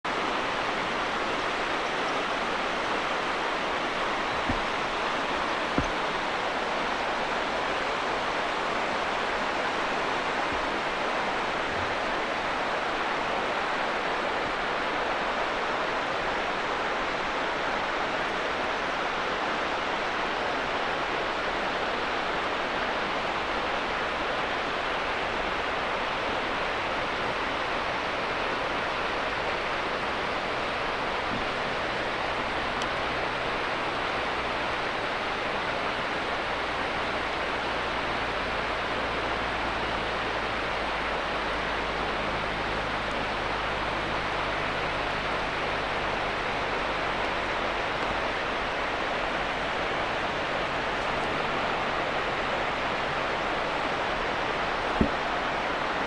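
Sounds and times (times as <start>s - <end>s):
river rushing over rapids: 0.1s - 56.0s.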